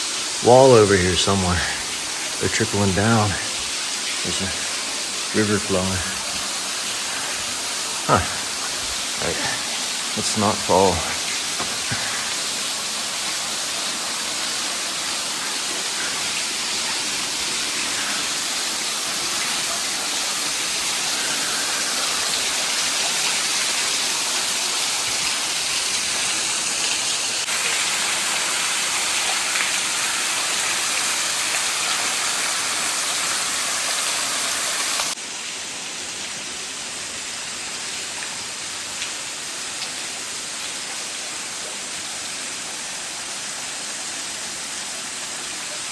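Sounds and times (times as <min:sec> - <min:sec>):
small waterfall splashing: 0:00.0 - 0:45.9.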